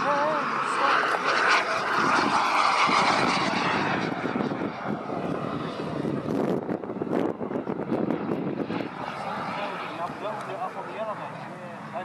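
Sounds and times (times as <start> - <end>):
model jet turbine rushing: 0.0 - 12.0.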